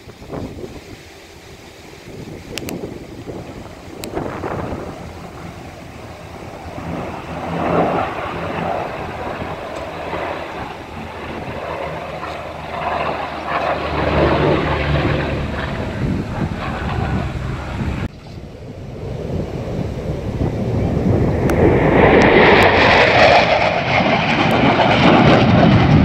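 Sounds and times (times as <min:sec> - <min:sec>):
aircraft engines droning overhead: 0:00.0 - 0:26.0
wind buffeting microphone: 0:00.0 - 0:26.0.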